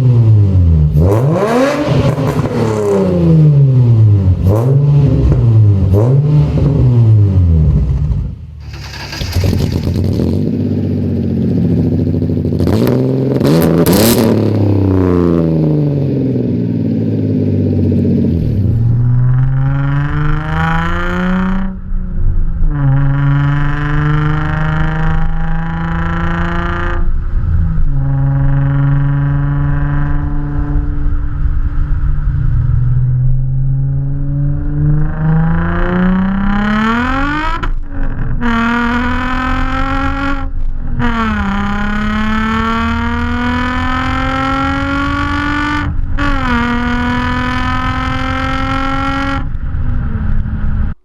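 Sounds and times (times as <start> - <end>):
car engine accelerating: 0.0 - 51.0.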